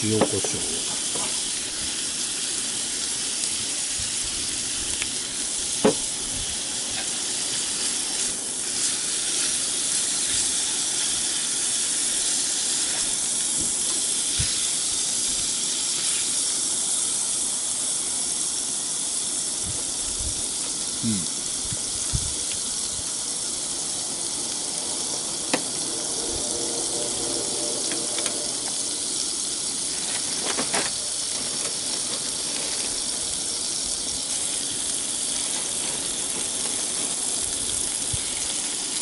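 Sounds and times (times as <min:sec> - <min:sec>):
meat sizzling in a skillet: 0:00.0 - 0:39.0.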